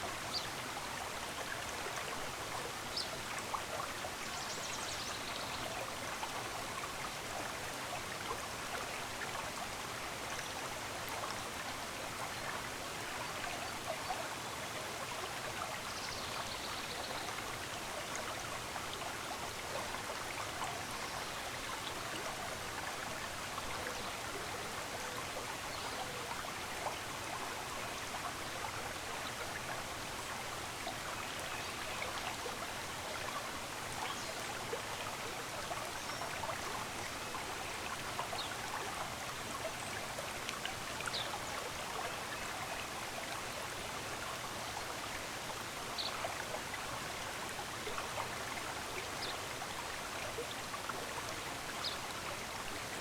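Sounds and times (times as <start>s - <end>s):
shallow stream running: 0.0s - 53.0s.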